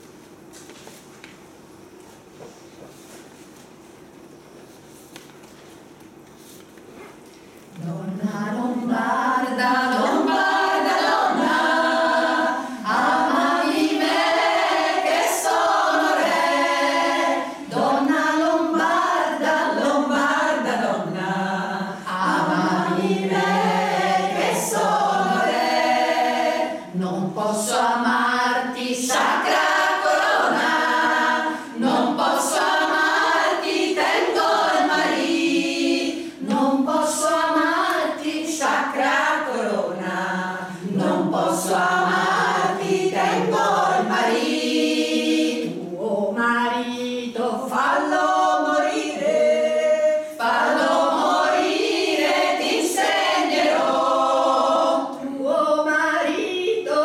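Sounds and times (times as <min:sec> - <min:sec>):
women's choir singing: 0:07.8 - 0:57.0.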